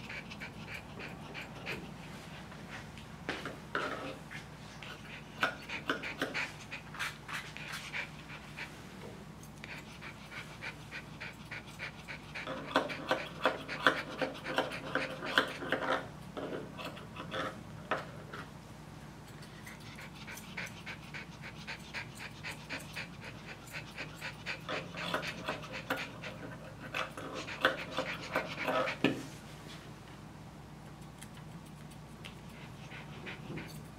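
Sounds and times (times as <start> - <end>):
small dog panting: 0.0 - 3.0, 3.8 - 16.1, 19.5 - 29.2, 31.2 - 33.9.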